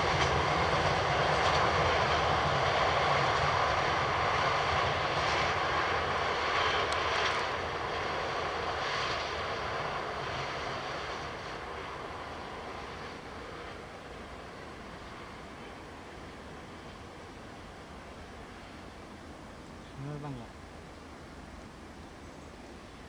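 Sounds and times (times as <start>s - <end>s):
train wheels rumbling on rails: 0.0s - 18.8s.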